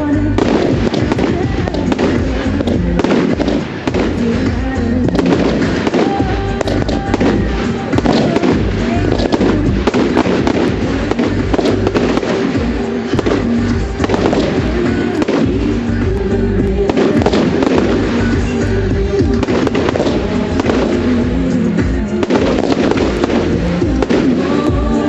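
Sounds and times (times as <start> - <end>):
fireworks bangs and crackles: 0.0 - 25.0
loud music: 0.0 - 25.0.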